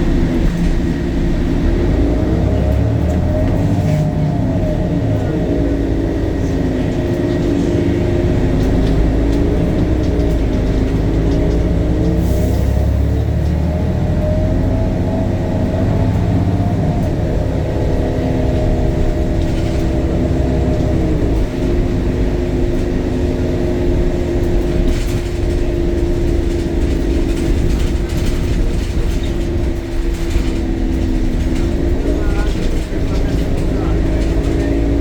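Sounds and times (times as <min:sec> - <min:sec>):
bus drivetrain whine: 0:00.0 - 0:35.0
bus engine rumble: 0:00.0 - 0:35.0.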